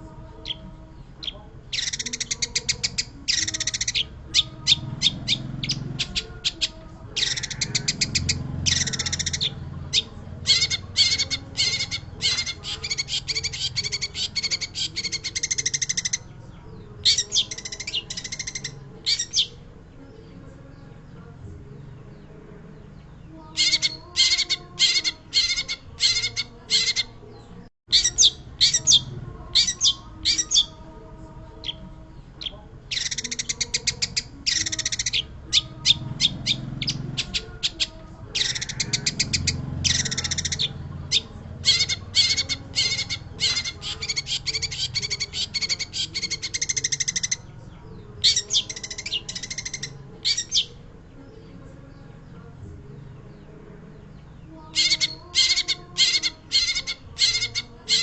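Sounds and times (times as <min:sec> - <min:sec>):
bird singing high chattering notes: 0:00.0 - 0:21.2, 0:21.8 - 0:58.0.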